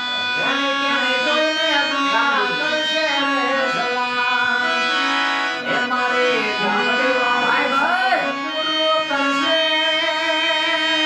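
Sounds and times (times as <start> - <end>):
harmonium chords: 0.0 - 11.0
man singing: 0.0 - 11.0.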